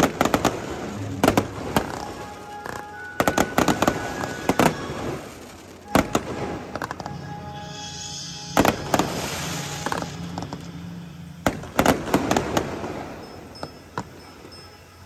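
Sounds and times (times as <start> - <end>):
fireworks bangs: 0.0 - 14.5
background music: 0.0 - 15.0.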